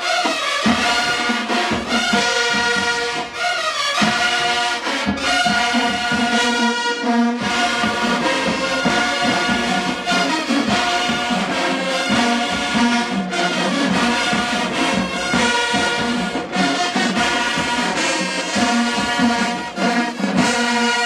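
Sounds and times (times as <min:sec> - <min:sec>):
brass section playing: 0:00.0 - 0:21.0
marching band playing: 0:00.0 - 0:21.0
steady drum beat: 0:00.0 - 0:21.0.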